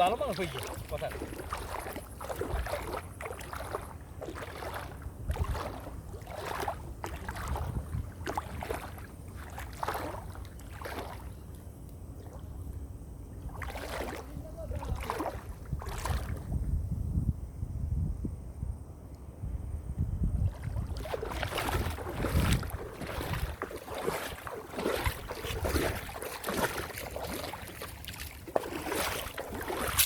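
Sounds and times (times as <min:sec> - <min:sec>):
water splashing: 0:00.0 - 0:11.6, 0:12.2 - 0:16.5, 0:20.4 - 0:30.0.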